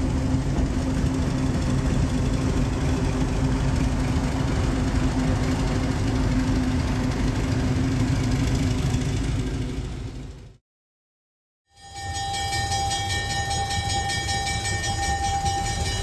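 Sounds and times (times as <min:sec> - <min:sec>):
locomotive engine idling: 0:00.0 - 0:10.6, 0:12.4 - 0:16.0.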